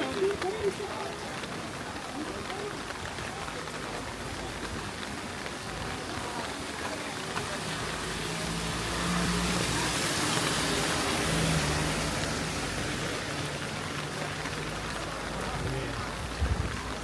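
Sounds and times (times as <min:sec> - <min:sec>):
car tyres hissing on wet road: 0:00.0 - 0:17.0
steady rain: 0:00.0 - 0:17.0.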